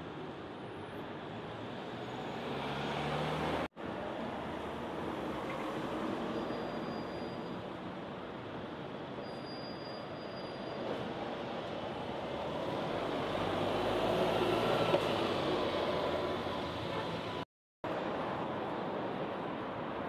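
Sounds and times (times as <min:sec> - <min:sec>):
bus engine and tyre rumble: 0:00.0 - 0:20.0.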